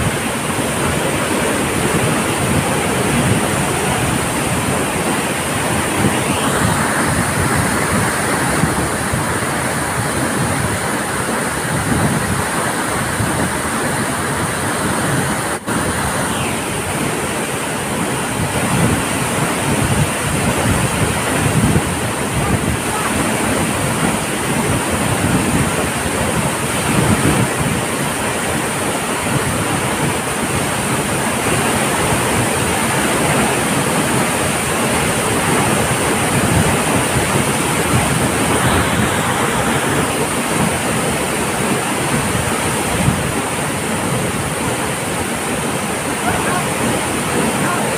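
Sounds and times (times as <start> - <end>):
waterfall rushing onto rocks: 0.0 - 47.9
wind buffeting microphone: 0.0 - 47.9.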